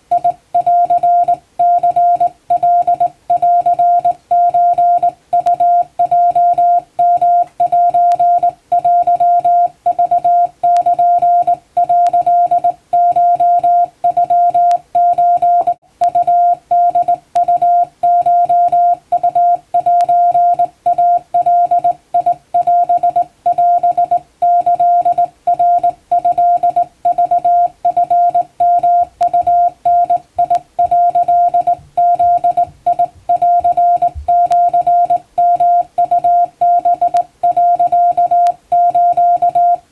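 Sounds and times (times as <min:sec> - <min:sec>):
morse code beeps: 0:00.1 - 0:39.8.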